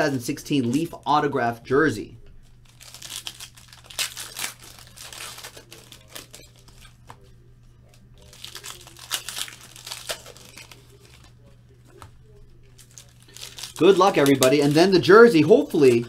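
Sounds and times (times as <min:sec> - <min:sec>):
foil wrappers tearing and crinkling: 0:02.4 - 0:16.0.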